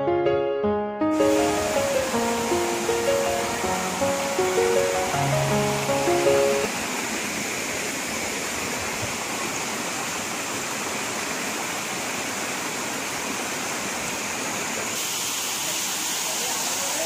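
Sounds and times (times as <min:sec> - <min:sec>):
water rushing over rocks: 0:01.2 - 0:17.0.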